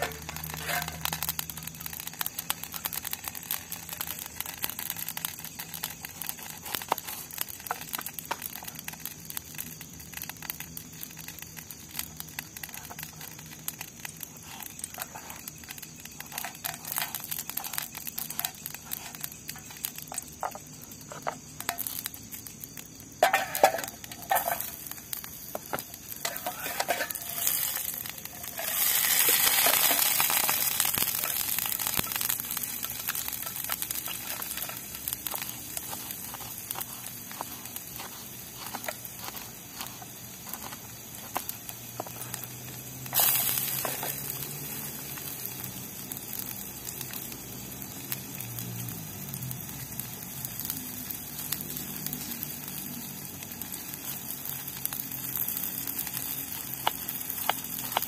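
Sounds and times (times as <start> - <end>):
garlic sizzling in hot oil: 0.0 - 58.0.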